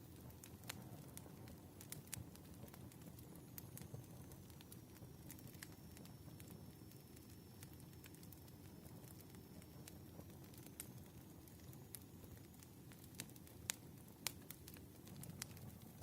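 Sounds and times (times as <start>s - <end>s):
fire crackles and pops: 0.0s - 16.0s
wood fire rumble: 0.0s - 16.0s.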